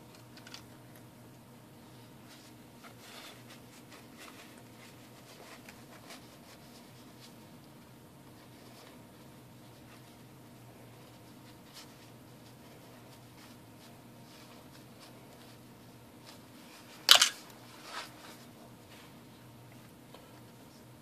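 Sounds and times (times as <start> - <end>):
low steady hum: 0.0 - 21.0
paper towel rustling: 1.8 - 19.6.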